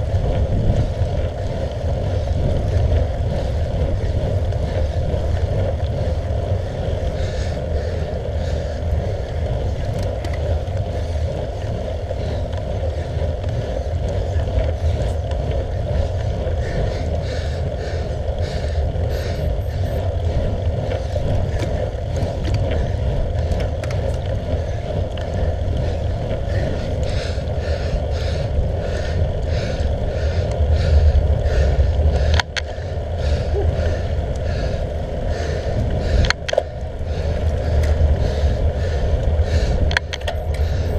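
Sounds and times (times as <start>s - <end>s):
road rumble: 0.0s - 40.9s
wind buffeting microphone: 0.0s - 40.9s.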